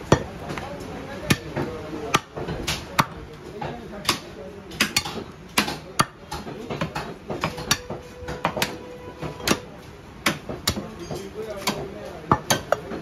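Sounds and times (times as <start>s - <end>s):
cleaver chopping on wooden block: 1.2s - 10.9s, 11.6s - 13.0s.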